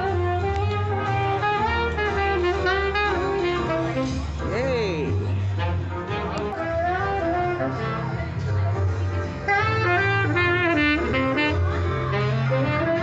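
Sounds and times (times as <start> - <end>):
horn playing melody: 0.0 - 4.5, 5.5 - 8.4, 9.4 - 13.0
low bass line: 0.0 - 13.0.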